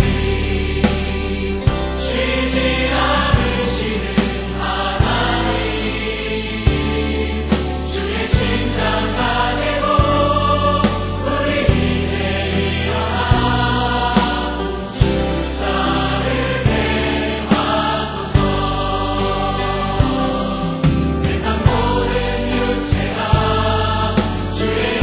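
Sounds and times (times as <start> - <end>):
choir singing worship song with band: 0.0 - 25.0.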